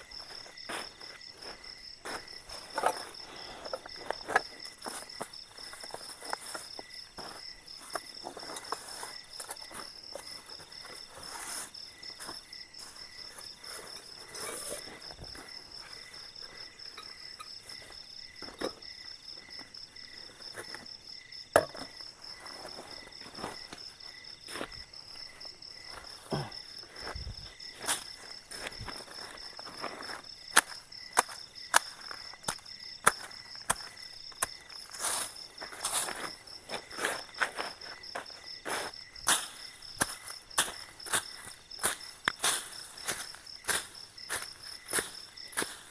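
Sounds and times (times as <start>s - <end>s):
night insects chirring: 0.0s - 45.9s.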